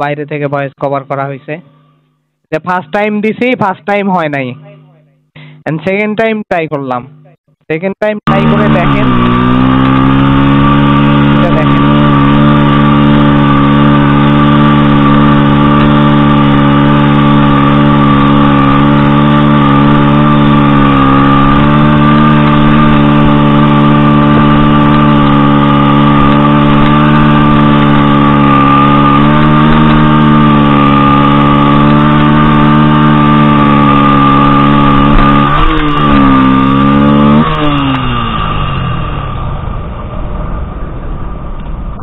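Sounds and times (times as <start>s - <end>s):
motorcycle engine at high revs: 8.3s - 42.0s.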